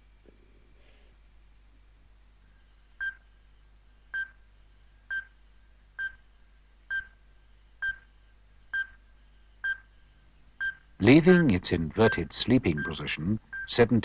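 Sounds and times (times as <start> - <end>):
faint tape hum: 0.0 - 14.0.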